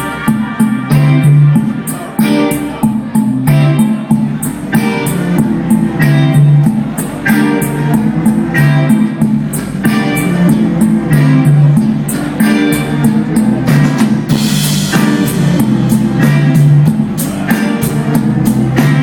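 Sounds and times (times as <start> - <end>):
guitar chords strummed: 0.0 - 19.0.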